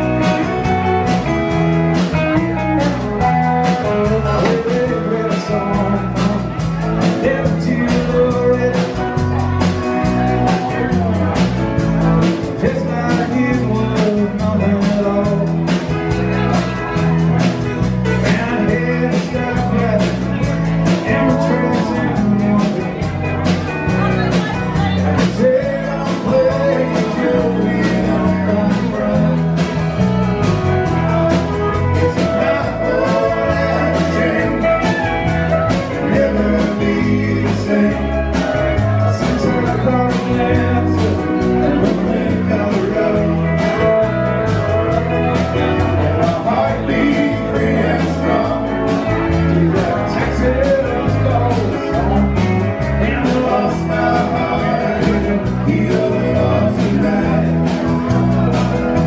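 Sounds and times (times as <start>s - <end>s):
country band playing: 0.0s - 59.0s
pedal steel guitar: 0.0s - 59.0s
steady drum beat: 0.0s - 59.0s.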